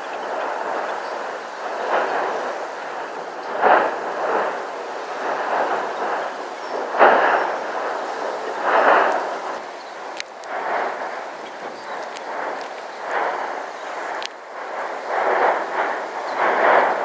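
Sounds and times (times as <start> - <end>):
volcano roaring: 0.0 - 17.0.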